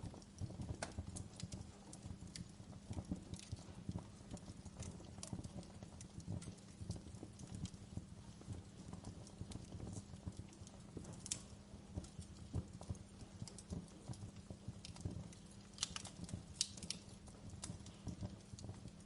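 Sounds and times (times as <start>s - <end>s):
loud fire snaps: 0.0s - 19.0s
low fire rumble: 0.0s - 19.0s
wood fire crackling and popping: 0.0s - 19.0s.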